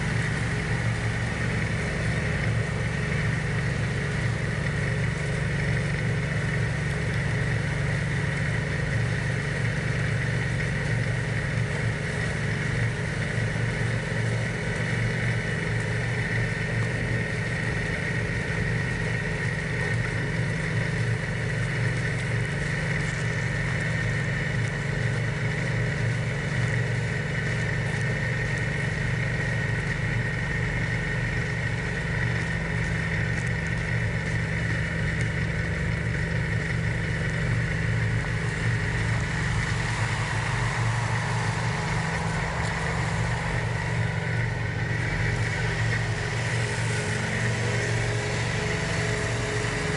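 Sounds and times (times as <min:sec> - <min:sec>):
diesel tractor engine running: 0:00.0 - 0:49.9
high-pitched whine: 0:00.0 - 0:49.9.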